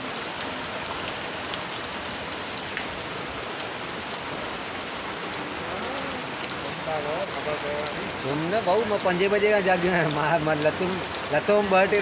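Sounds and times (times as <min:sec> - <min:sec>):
heavy rain hissing: 0:00.0 - 0:12.0
raindrops ticking close by: 0:00.0 - 0:12.0.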